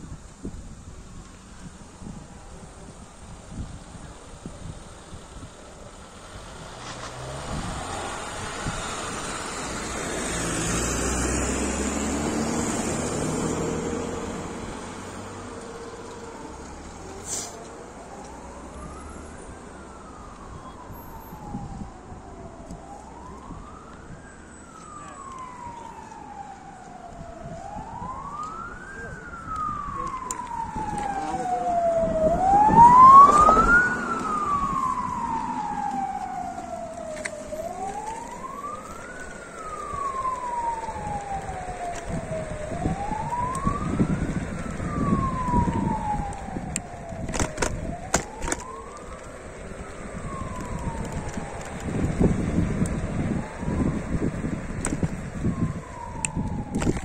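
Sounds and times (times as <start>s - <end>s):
ambulance siren wailing: 1.1s - 57.0s.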